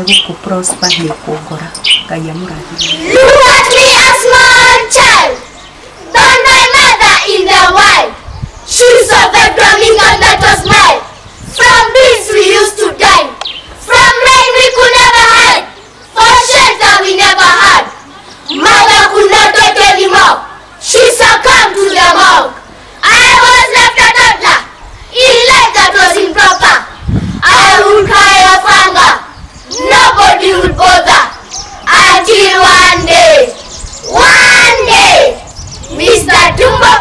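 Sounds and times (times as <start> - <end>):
children chanting in unison: 3.0 - 37.0.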